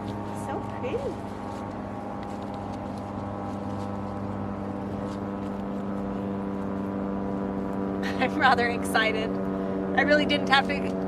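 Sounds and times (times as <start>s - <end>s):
low mechanical motor hum: 0.0s - 11.0s.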